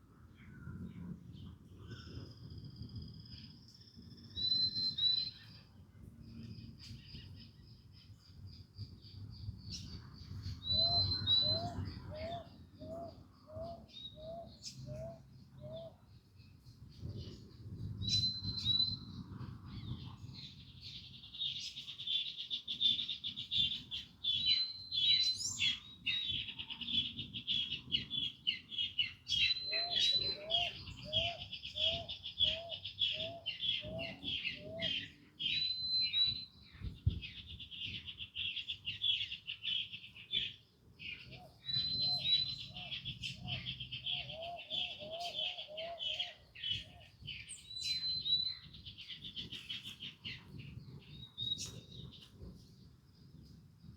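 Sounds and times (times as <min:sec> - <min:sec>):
low rising whistled bird notes: 0:00.4 - 0:08.3, 0:09.1 - 0:16.0, 0:17.0 - 0:22.1, 0:22.7 - 0:40.0, 0:41.2 - 0:52.2.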